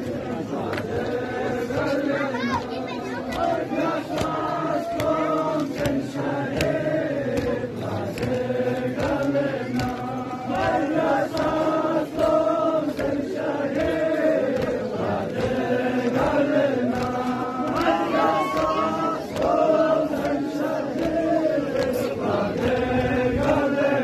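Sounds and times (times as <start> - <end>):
group of voices chanting: 0.0 - 24.0
sharp rhythmic beats: 0.0 - 24.0.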